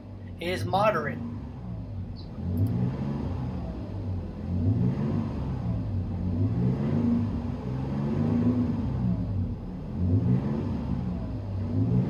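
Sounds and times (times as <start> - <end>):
truck engine accelerating in cab: 0.0 - 12.0.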